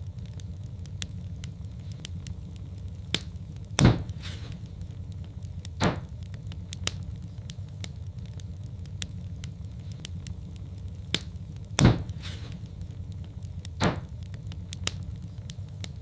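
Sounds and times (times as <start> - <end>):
loud fire pops: 0.0 - 16.0
wood fire crackling: 0.0 - 16.0.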